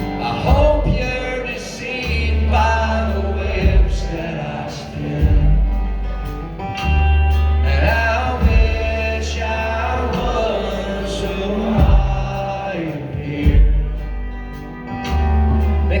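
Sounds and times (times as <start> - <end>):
live acoustic band music: 0.0 - 16.0
steady bass: 0.0 - 16.0.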